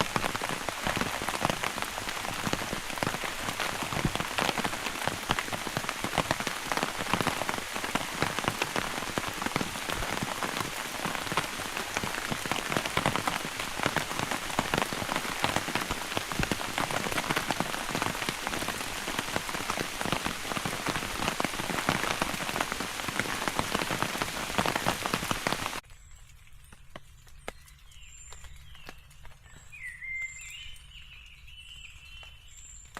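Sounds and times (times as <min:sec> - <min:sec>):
rain on tarp: 0:00.0 - 0:32.9.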